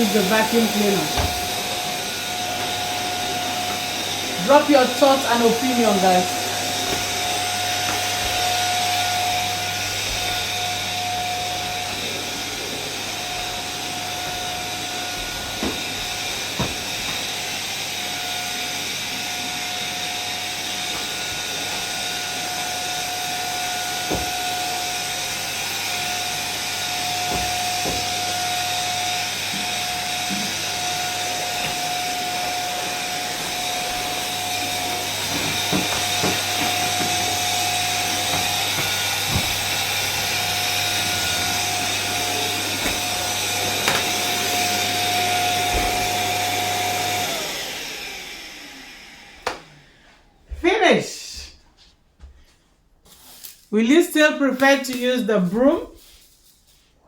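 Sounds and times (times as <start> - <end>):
vacuum cleaner running: 0.0 - 51.5.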